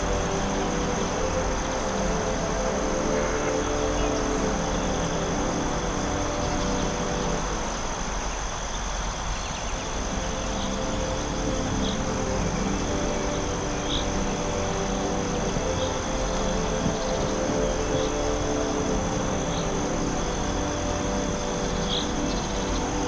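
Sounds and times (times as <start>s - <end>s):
constant hiss: 0.0s - 23.0s
high insect trill: 0.0s - 23.0s
low steady drone: 0.0s - 23.0s.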